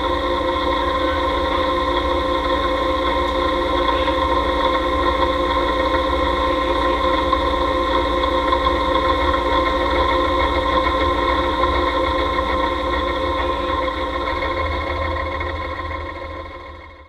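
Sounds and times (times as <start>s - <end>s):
milling machine humming and whining: 0.0s - 17.0s.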